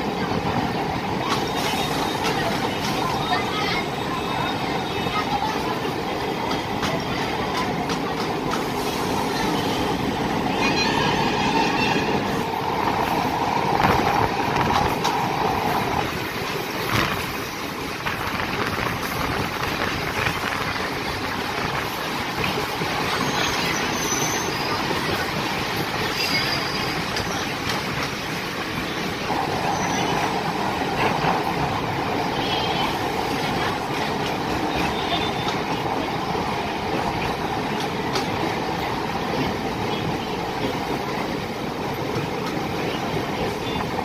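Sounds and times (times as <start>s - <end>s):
train wheels on rails: 0.0s - 44.0s
sharp clicks from wheels: 0.4s - 3.9s, 5.0s - 10.2s, 11.8s - 44.0s.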